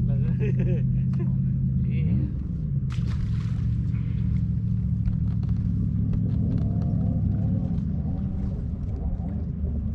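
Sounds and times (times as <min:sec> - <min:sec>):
boat motor rumbling: 0:00.0 - 0:09.9.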